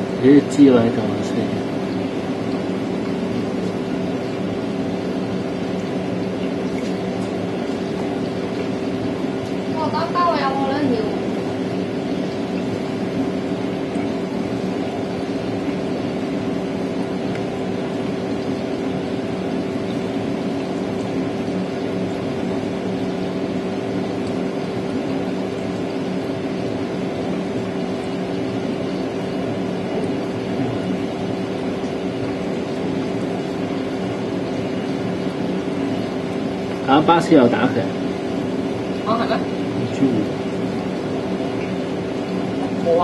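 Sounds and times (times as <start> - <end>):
aquarium pumps humming: 0.0 - 43.0.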